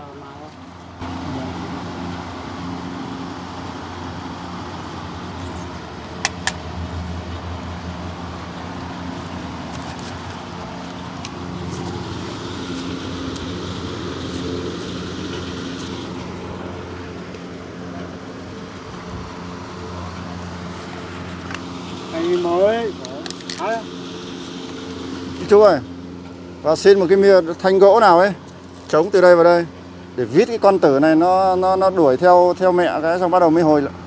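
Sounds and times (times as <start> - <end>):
chainsaw engine running: 0.5 - 34.0.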